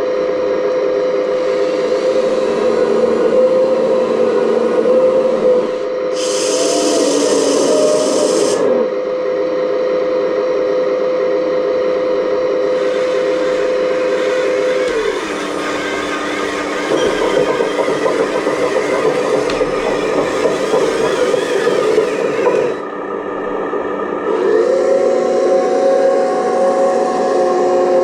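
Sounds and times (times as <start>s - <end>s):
electric drive whine: 0.0s - 28.0s.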